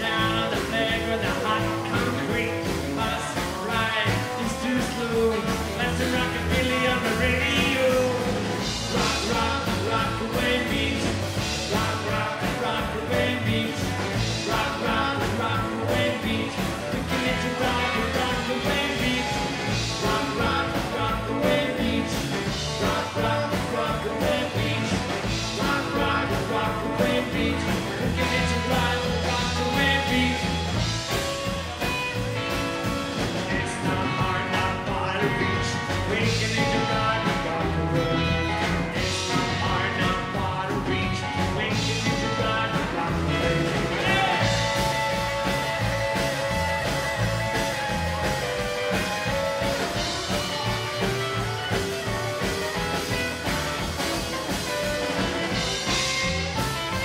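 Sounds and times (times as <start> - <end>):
man singing: 0.0 - 31.2, 33.4 - 51.1
drum kit steady beat: 0.0 - 57.0
electric guitar: 0.0 - 57.0
upright double bass: 0.0 - 57.0.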